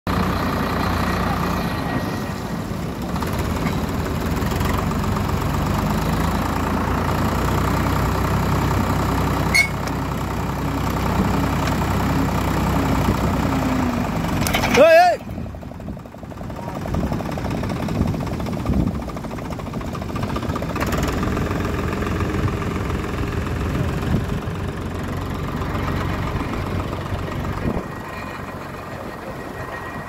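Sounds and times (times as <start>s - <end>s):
winch engine running under load: 0.1s - 30.0s.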